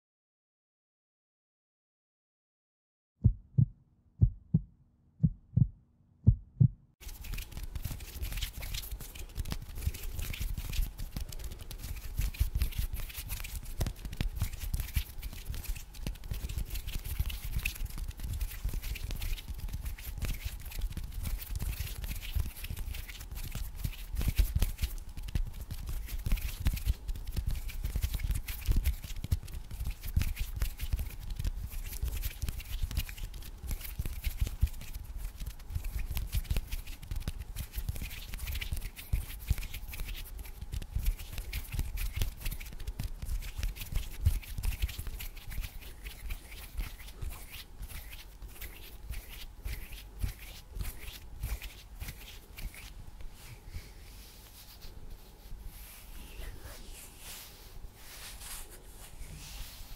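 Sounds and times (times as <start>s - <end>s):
fingers rubbing at microphone: 7.0s - 59.9s.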